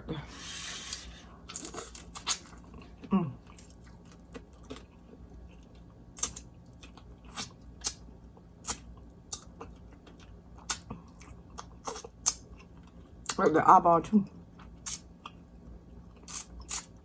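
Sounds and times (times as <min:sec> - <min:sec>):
person chewing: 0:00.4 - 0:13.4, 0:14.6 - 0:15.4, 0:16.0 - 0:17.0.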